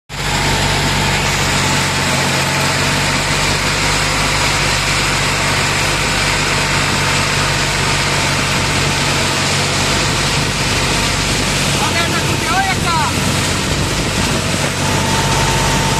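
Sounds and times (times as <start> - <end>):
tractor diesel engine running: 0.1 - 15.9.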